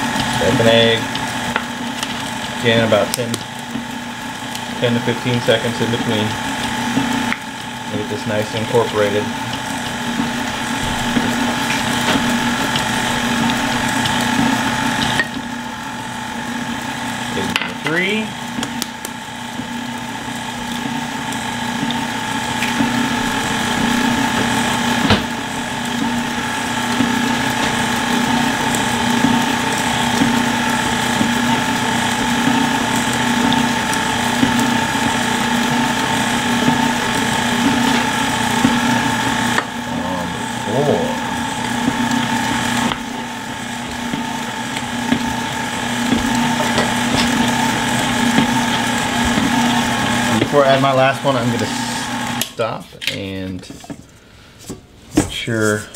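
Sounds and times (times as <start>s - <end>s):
stand mixer motor whirring: 0.0s - 54.2s.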